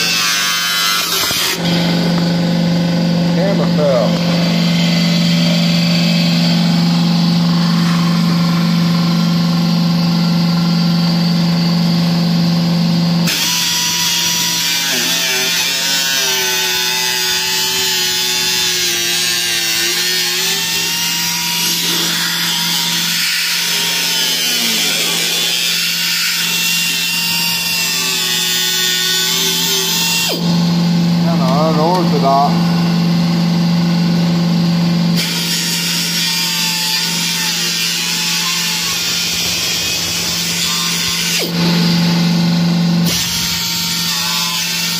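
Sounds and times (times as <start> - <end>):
pneumatic cut-off tool grinding metal: 0.0 - 44.9
steady low hum: 0.0 - 44.9.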